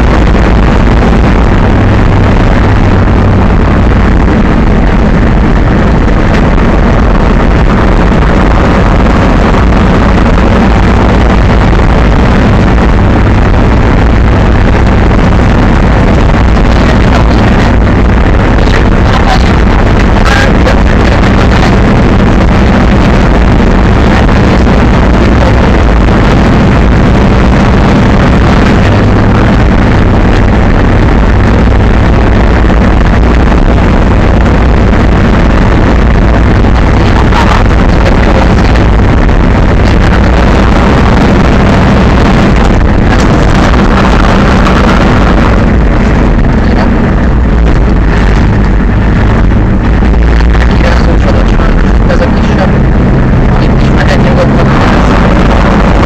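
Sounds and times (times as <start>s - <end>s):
truck engine deep rumble: 0.0s - 56.0s.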